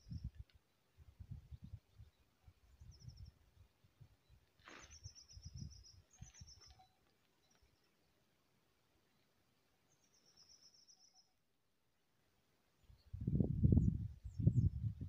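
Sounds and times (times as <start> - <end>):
faint small bird song: 0.0 - 15.0.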